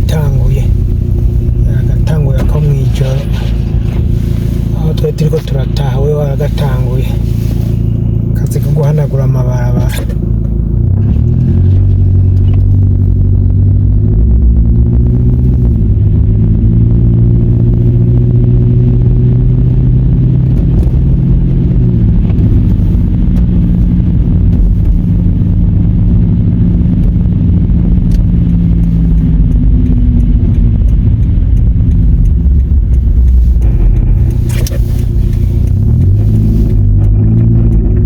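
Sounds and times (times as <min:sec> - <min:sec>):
car engine hum: 0:00.0 - 0:38.0
road noise: 0:00.0 - 0:38.0.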